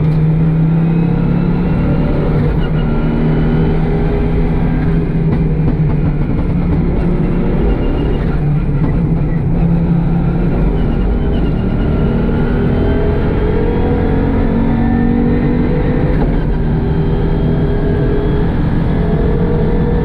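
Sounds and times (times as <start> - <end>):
rally car engine running rough: 0.0 - 20.0.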